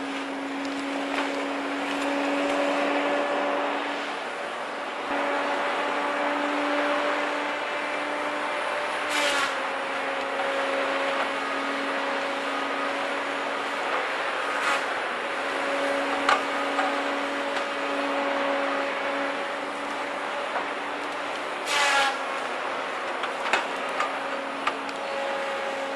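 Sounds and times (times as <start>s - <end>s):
tracked harvester engine droning: 0.0s - 25.9s.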